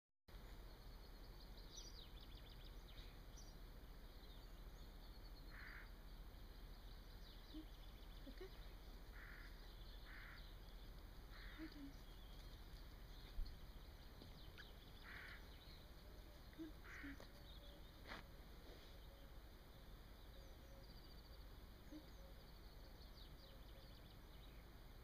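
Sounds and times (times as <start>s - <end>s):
distant birds chirping: 0.3s - 25.0s.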